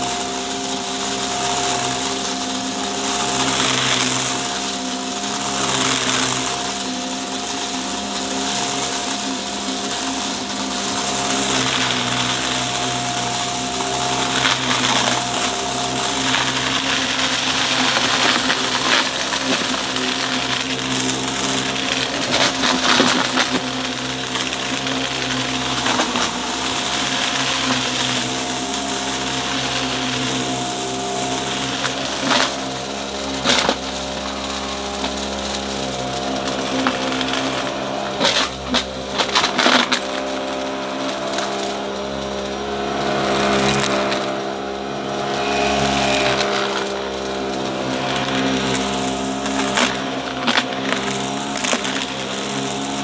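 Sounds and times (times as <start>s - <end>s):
debris crunching in vacuum: 0.0s - 53.0s
vacuum cleaner running: 0.0s - 53.0s.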